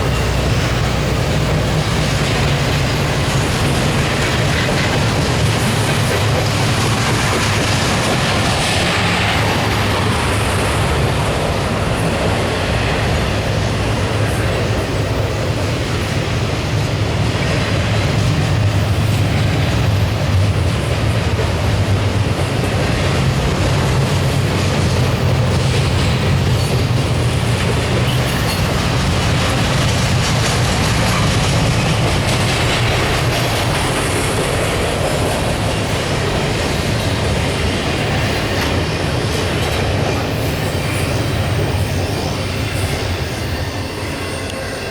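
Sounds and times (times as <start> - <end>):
freight train wheels on rail: 0.0 - 44.9.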